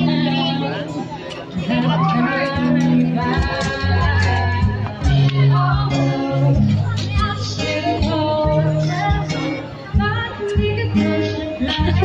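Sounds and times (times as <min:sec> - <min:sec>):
song with singing over beat: 0:00.0 - 0:12.0.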